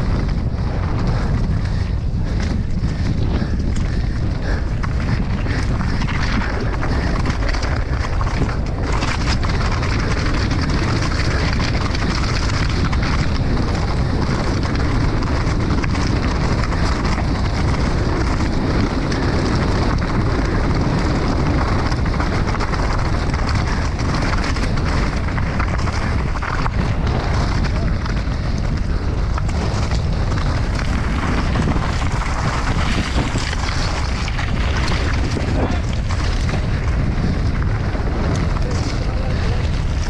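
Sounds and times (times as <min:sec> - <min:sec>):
bike rattling and clicking: 0:00.0 - 0:40.0
tyres crunching over gravel: 0:00.0 - 0:40.0
wind on microphone: 0:00.0 - 0:40.0.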